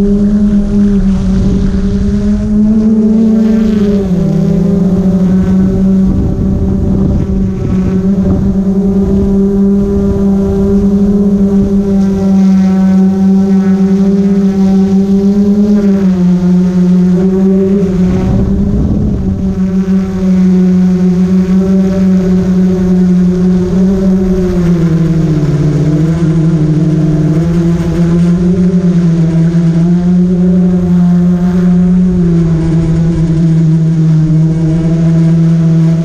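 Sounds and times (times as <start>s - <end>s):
drone propellers humming: 0.0s - 36.0s
wind rumbling on microphone: 0.0s - 36.0s.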